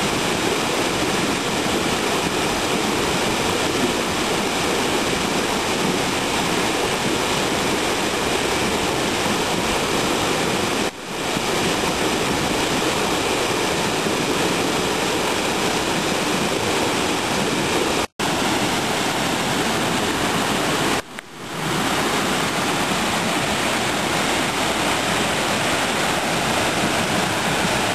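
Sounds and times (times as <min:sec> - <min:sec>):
waterfall rushing into pool: 0:00.0 - 0:27.9.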